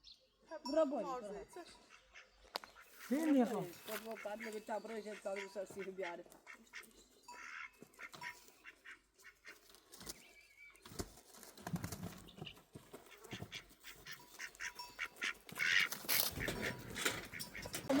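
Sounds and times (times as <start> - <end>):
birds calling: 0.0 - 11.4, 12.1 - 18.0.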